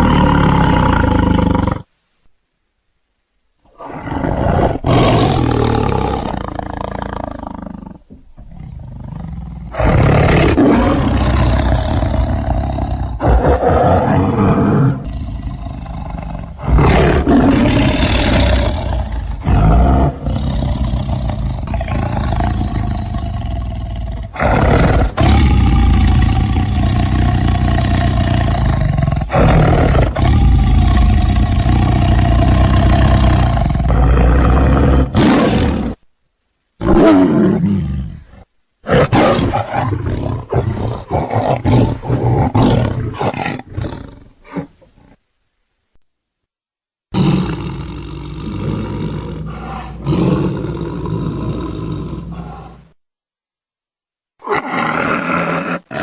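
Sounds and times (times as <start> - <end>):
tiger roaring: 0.0 - 1.9, 3.7 - 36.0, 36.8 - 44.9, 47.1 - 53.0, 54.4 - 56.0.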